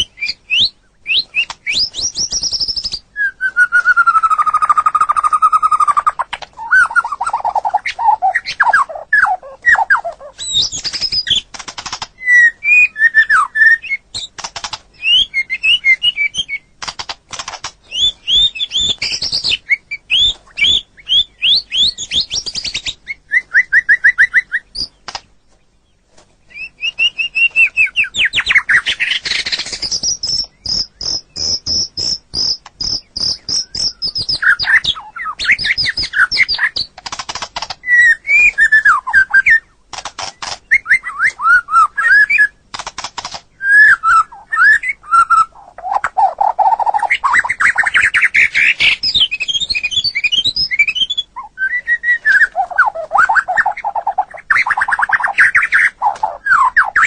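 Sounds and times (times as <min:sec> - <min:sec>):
songbird singing varied song: 0:00.0 - 0:57.0.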